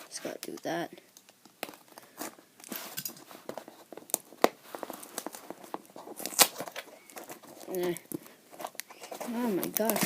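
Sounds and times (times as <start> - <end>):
packaging rustling and crinkling: 1.6 - 10.0.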